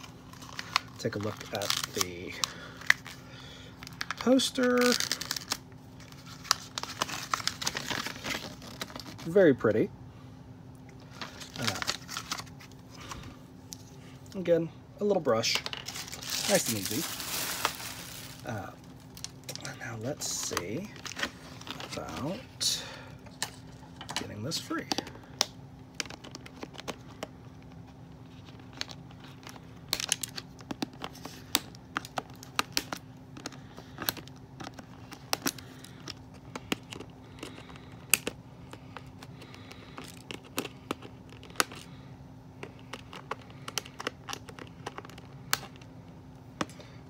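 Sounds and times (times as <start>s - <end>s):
plastic packaging crinkling: 0.0s - 9.4s, 11.1s - 14.0s, 15.3s - 22.5s, 25.9s - 42.0s, 42.6s - 46.0s.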